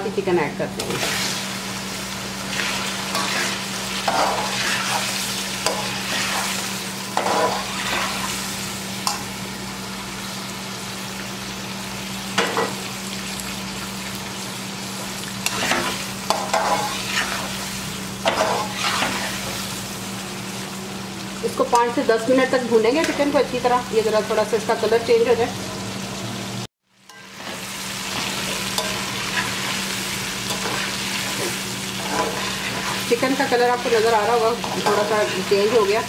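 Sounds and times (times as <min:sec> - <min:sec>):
chicken sizzling in hot oil: 0:00.8 - 0:36.0.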